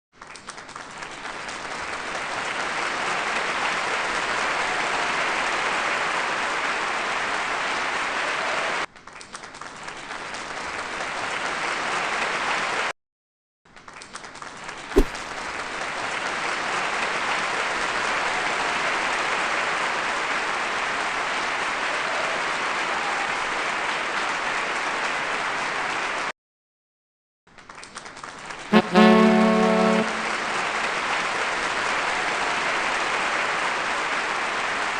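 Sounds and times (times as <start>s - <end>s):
large crowd applauding: 0.2s - 12.9s, 15.7s - 26.3s, 27.7s - 34.9s.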